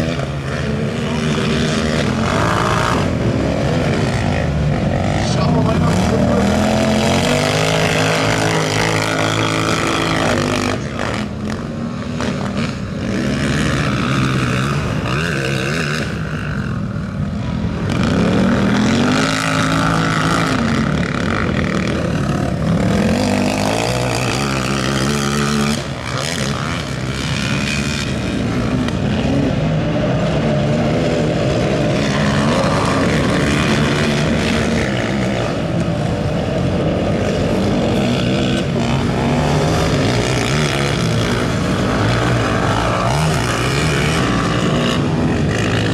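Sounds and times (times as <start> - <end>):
quad engines revving hard: 0.0 - 45.9.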